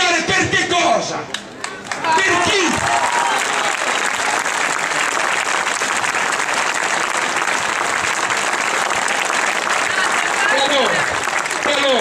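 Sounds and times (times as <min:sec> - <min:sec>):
large crowd applauding: 0:01.6 - 0:12.0.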